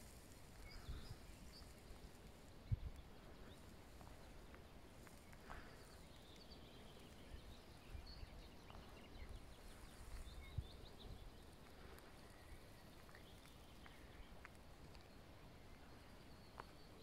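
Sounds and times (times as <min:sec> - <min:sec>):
wind rumble on microphone: 0:00.0 - 0:05.8, 0:06.4 - 0:14.4
distant birds chirping: 0:00.0 - 0:17.0.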